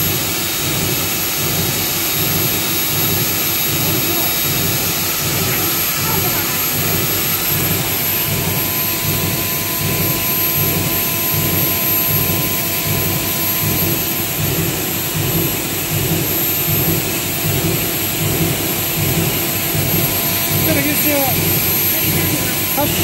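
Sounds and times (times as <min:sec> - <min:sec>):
high steady whine: 0:00.0 - 0:23.0
industrial machinery rush: 0:00.0 - 0:23.0.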